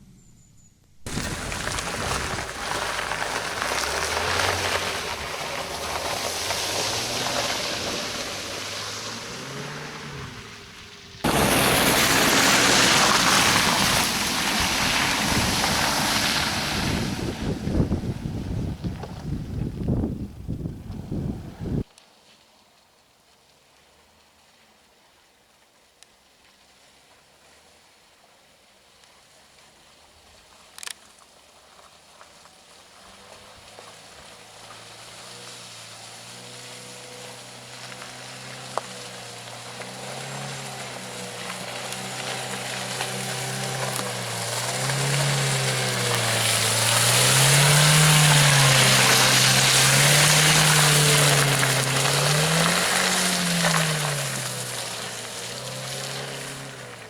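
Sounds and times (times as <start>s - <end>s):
off-road engine revving: 0.0s - 21.9s, 33.0s - 57.0s
tyres churning through mud and water: 1.1s - 21.9s, 28.6s - 57.0s.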